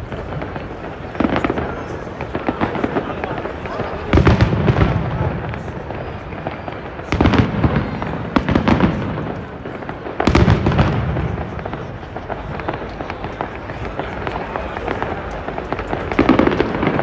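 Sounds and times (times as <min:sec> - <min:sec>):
fireworks booming: 0:00.0 - 0:17.0
fireworks crackling: 0:00.0 - 0:17.0.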